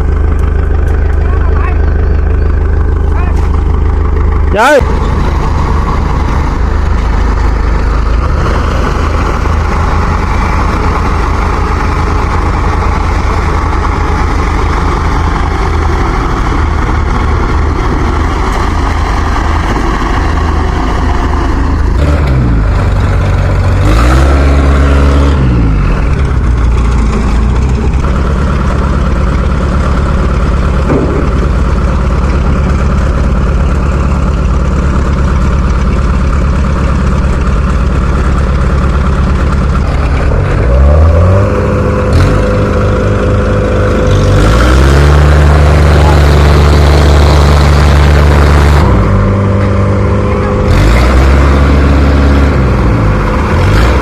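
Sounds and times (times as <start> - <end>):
heavy farm machine engine: 0.0 - 54.0.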